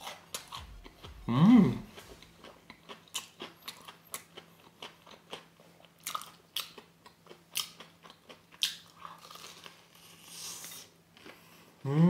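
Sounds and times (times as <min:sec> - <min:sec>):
person chewing crispy food: 0:00.0 - 0:11.8.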